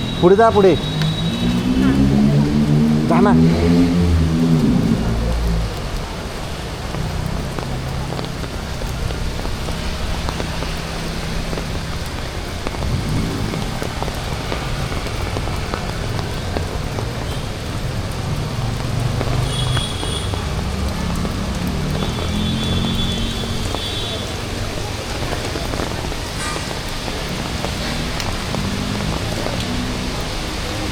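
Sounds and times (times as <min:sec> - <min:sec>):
low hum of street traffic: 0:00.0 - 0:30.9
steady rain falling: 0:00.0 - 0:30.9.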